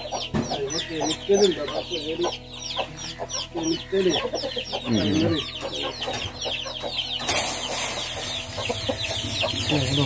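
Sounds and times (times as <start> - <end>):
chickens clucking: 0.0 - 10.0
chicks cheeping: 0.0 - 10.0.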